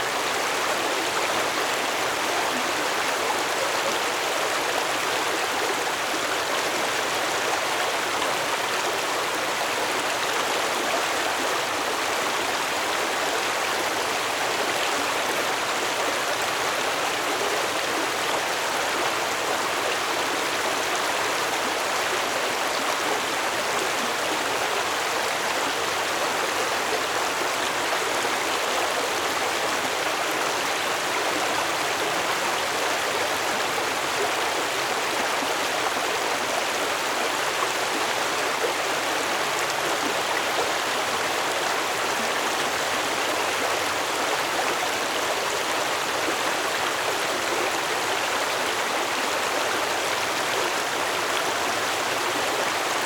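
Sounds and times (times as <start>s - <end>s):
stream water babbling: 0.0s - 53.0s.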